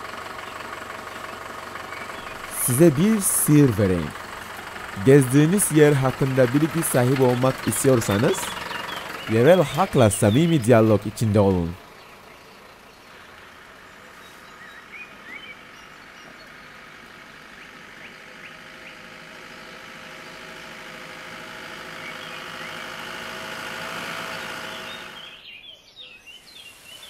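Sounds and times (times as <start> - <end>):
vehicle engine driving on dirt: 0.0 - 25.6.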